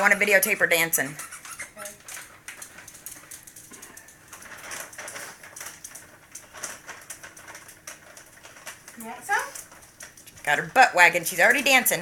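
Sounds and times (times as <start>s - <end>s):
dog claws clicking on floor: 0.0s - 12.0s.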